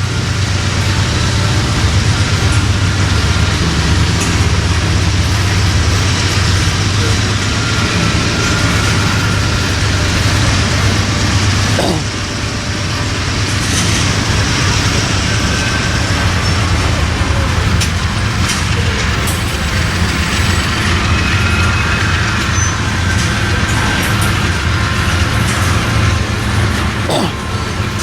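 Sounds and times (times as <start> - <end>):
faint high wheel squeals: 0.0 - 28.0
train rumbling: 0.0 - 28.0
wheels on rail: 0.0 - 28.0.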